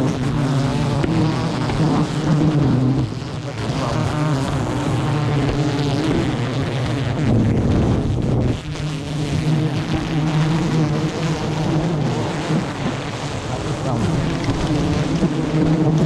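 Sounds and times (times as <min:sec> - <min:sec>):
swarm of bees buzzing: 0:00.0 - 0:16.0.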